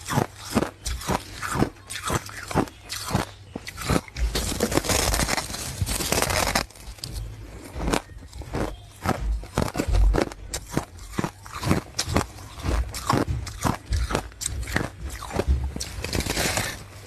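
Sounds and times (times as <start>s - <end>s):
crunching hard ice: 0.0s - 17.0s.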